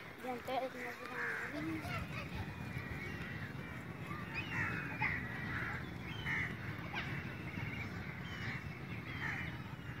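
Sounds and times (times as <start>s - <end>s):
birds calling: 0.0s - 10.0s.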